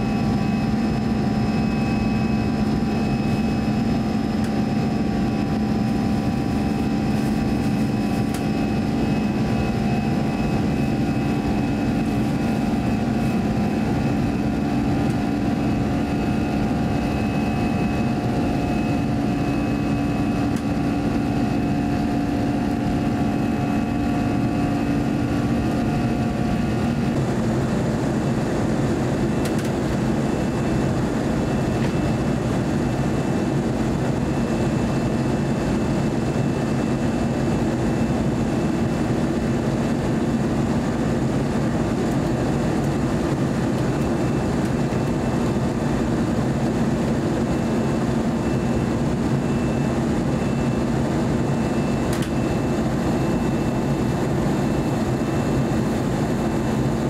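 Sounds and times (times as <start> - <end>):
jet engines and airflow rushing: 0.0 - 57.0.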